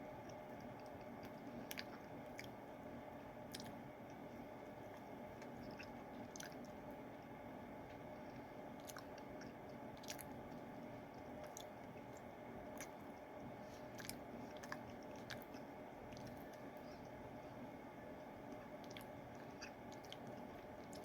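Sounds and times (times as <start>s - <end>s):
faint chewing: 0.0s - 21.0s
low room hum: 0.0s - 21.0s.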